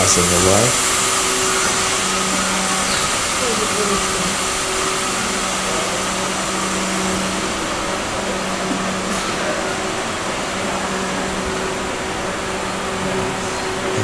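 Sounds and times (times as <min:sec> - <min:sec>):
machinery humming with hiss: 0:00.0 - 0:14.0.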